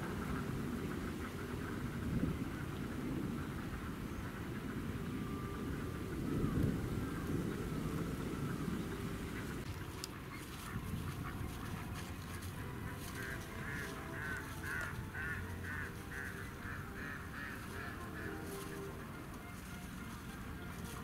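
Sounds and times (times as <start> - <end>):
low steady rumble: 0.0 - 21.0
mallards quacking: 0.0 - 21.0.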